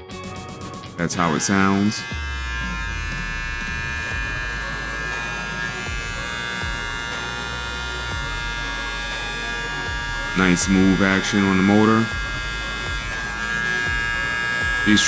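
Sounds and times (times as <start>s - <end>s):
electric hair trimmer buzzing: 0.6s - 15.0s.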